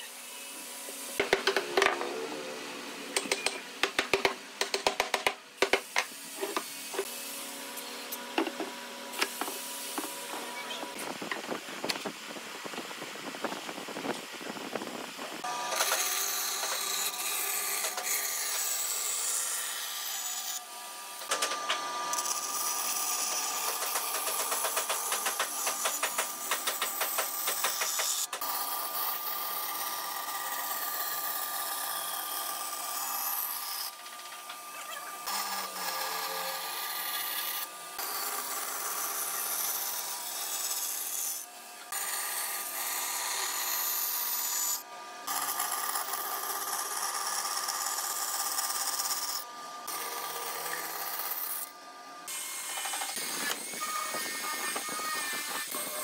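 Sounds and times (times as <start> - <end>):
band saw cutting wood: 0.0 - 11.0, 15.4 - 56.0
motor hum: 0.0 - 56.0.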